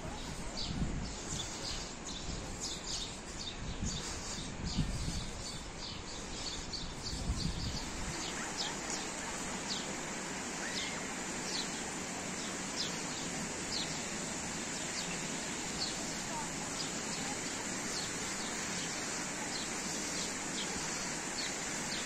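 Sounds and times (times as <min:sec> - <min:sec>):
small songbirds chirping: 0:00.0 - 0:22.0
steady outdoor hiss: 0:00.0 - 0:22.0.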